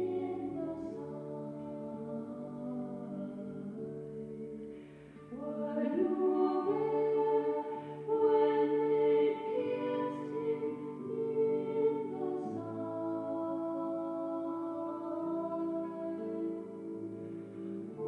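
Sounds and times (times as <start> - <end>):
slow choral singing: 0.0 - 18.0.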